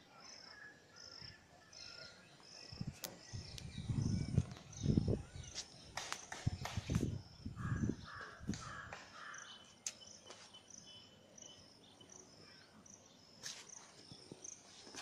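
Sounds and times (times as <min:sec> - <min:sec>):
high chirps of birds or insects: 0:00.0 - 0:15.0.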